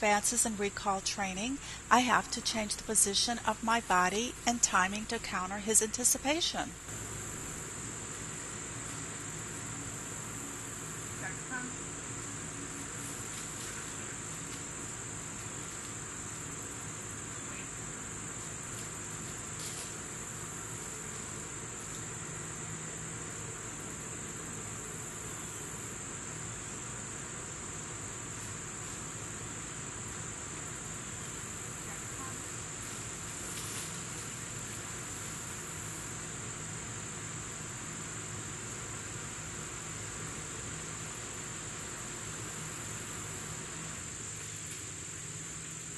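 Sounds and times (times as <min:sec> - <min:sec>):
crickets chirring: 0:00.0 - 0:45.9
faint low hum: 0:00.0 - 0:45.9
high-pitched insect chorus: 0:05.6 - 0:45.9.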